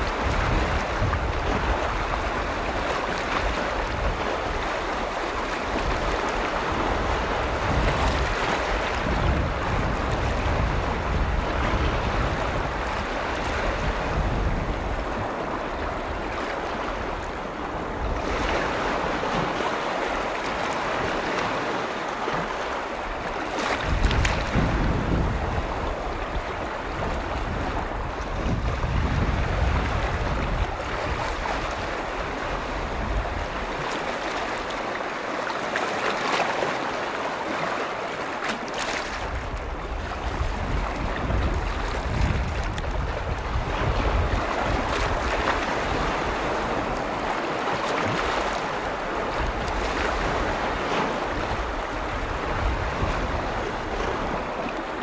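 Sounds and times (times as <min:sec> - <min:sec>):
lake waves lapping on shore: 0:00.0 - 0:55.0
wind rumbling on microphone: 0:00.0 - 0:55.0.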